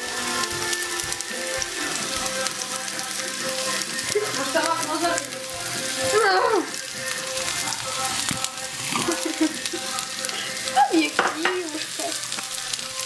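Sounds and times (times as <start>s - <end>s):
onion sizzling in pan: 0.0s - 13.0s.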